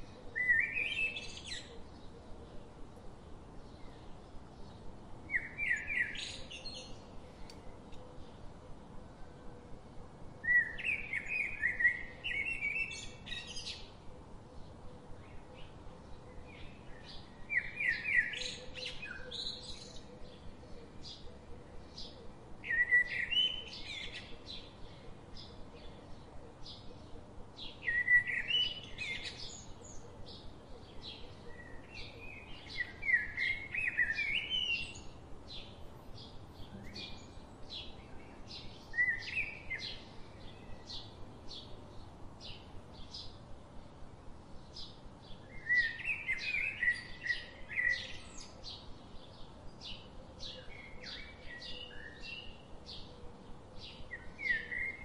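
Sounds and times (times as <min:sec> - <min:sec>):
songbirds chirping phrases: 0:00.0 - 0:55.0.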